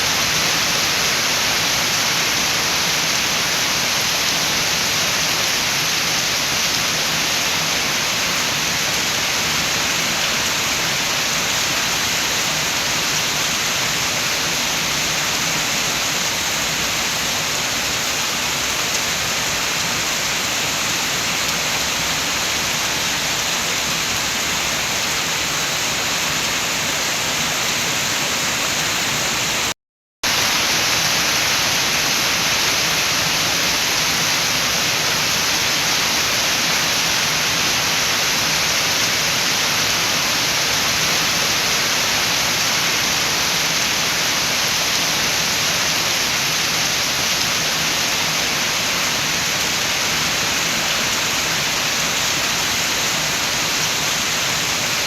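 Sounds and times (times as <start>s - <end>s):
dense rain with wind: 0.0s - 55.0s.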